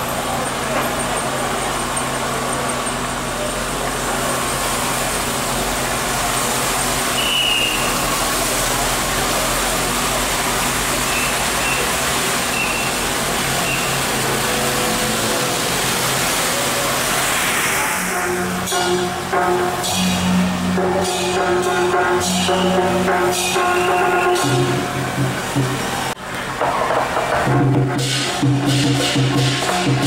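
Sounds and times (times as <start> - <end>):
motor vehicle engines running: 0.0 - 30.0.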